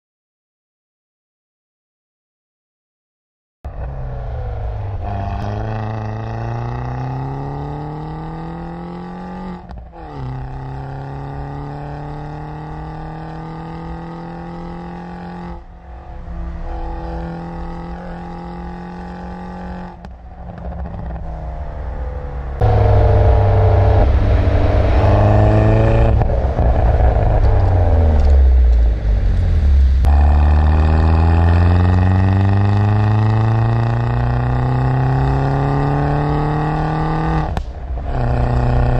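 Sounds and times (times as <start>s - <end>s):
car engine accelerating hard: 3.7s - 38.9s.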